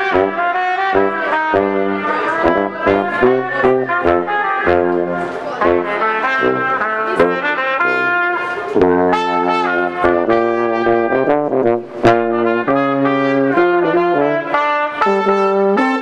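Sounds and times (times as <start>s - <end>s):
trumpets and trombones playing: 0.0s - 16.0s.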